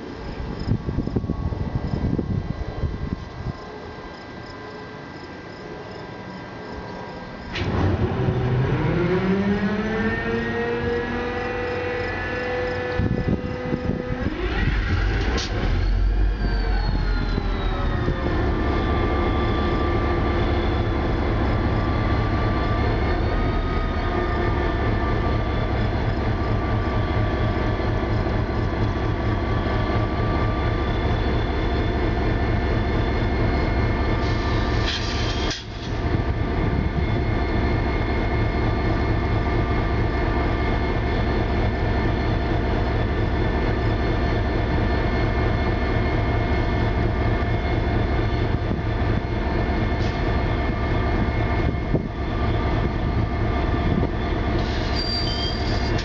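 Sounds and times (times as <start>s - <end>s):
diesel locomotive engine revving: 7.4s - 56.0s.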